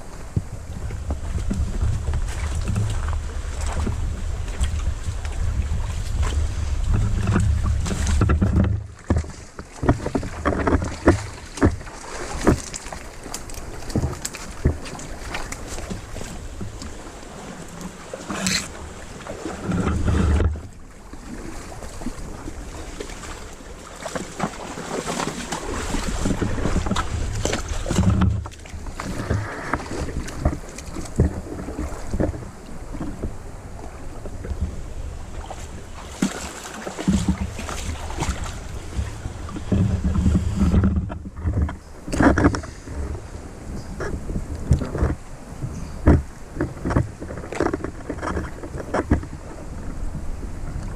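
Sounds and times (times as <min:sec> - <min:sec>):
creek water splashing: 0:00.0 - 0:50.9
wind buffeting microphone: 0:00.0 - 0:50.9.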